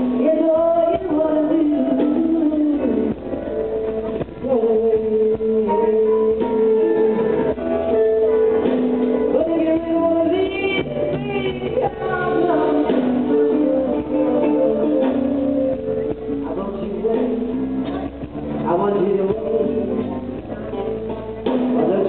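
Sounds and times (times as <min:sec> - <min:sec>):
live blues band: 0:00.0 - 0:22.0
woman singing: 0:00.0 - 0:22.0.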